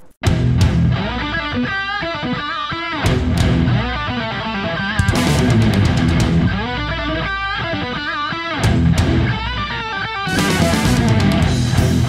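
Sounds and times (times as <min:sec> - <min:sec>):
rock music: 0:00.0 - 0:12.0
bending electric guitar lead: 0:00.2 - 0:12.0.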